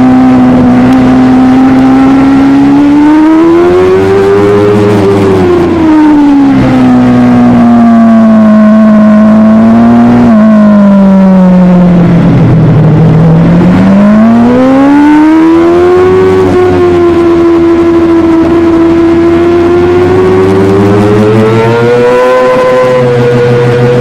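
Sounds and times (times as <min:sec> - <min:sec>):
superbike engine revving: 0:00.0 - 0:24.0.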